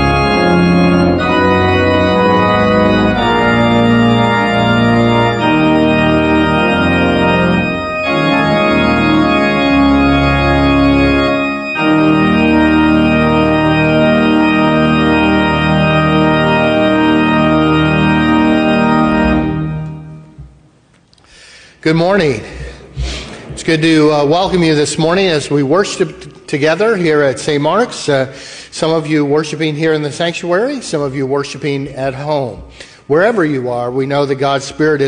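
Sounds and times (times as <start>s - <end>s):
organ playing sustained chords: 0.0s - 35.0s.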